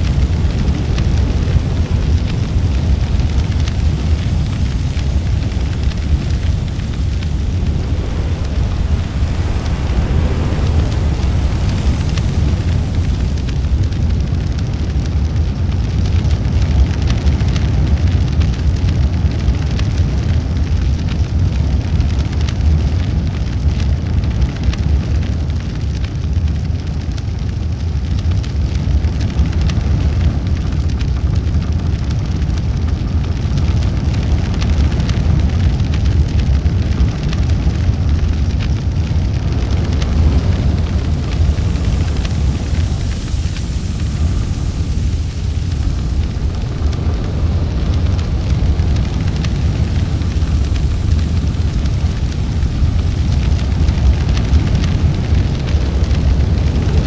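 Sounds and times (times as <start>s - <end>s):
burning wood crackling and snapping: 0.0s - 57.0s
large fire roaring: 0.0s - 57.0s.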